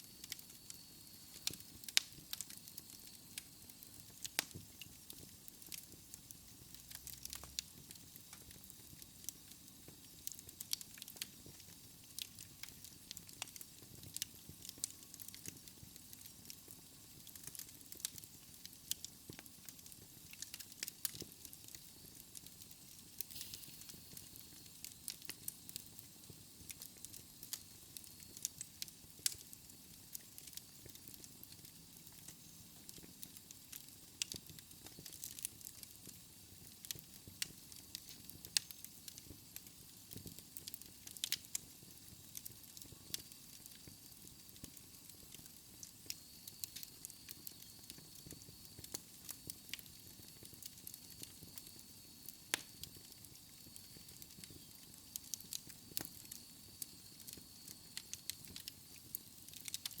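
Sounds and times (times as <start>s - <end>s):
soft steady hiss: 0.0s - 60.0s
wood fire crackling: 0.0s - 60.0s.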